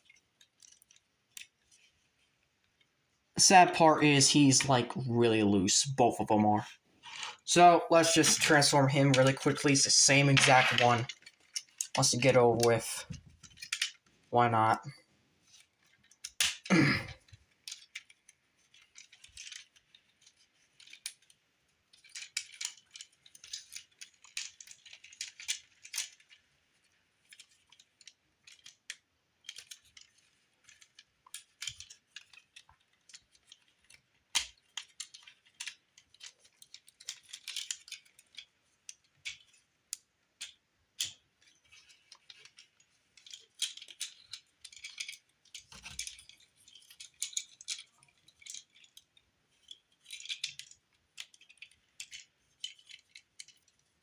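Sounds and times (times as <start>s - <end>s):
plastic toy parts clicking: 0.0s - 3.0s, 7.0s - 14.8s, 15.4s - 54.0s.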